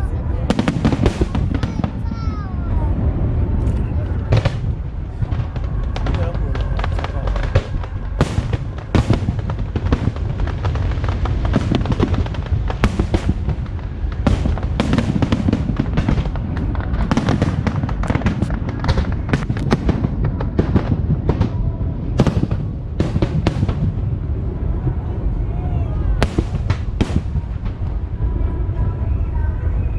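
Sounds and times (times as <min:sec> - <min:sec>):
fireworks bursts and crackles: 0:00.0 - 0:29.9
steady low rumble: 0:00.0 - 0:29.9.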